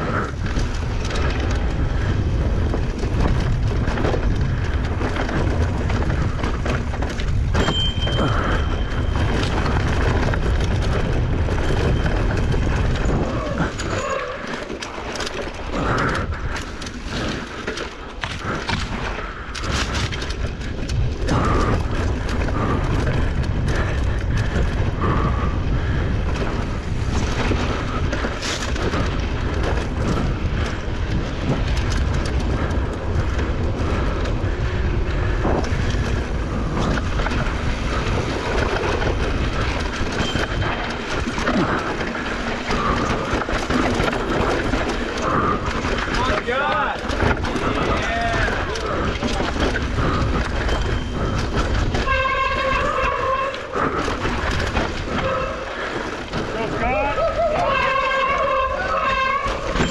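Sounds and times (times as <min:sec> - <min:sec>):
bike rattling over bumps: 0:00.0 - 0:59.9
wind buffeting microphone: 0:00.0 - 0:59.9.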